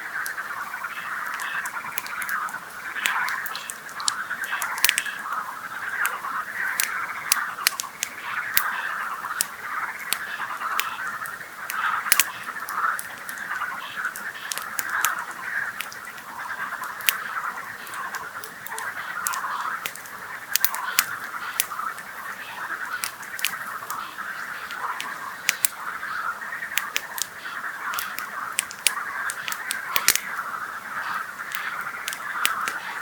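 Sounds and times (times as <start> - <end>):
frogs calling: 0.0 - 33.0
campfire crackling and popping: 0.1 - 33.0.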